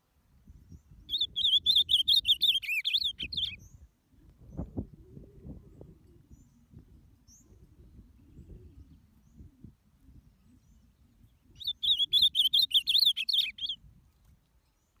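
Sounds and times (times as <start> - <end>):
bird warbling song: 0.5 - 15.0.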